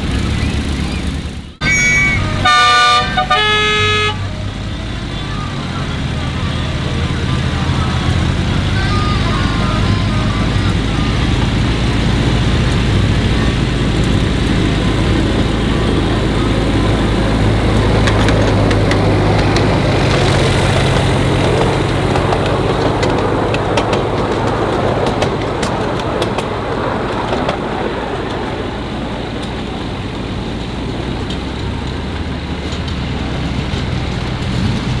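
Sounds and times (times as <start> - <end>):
miniature locomotive engine: 0.0 - 35.0.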